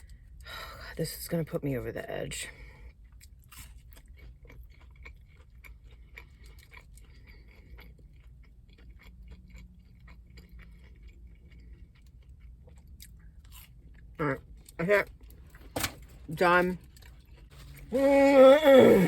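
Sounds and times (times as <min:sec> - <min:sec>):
person chewing crunchy food: 0:02.8 - 0:19.0.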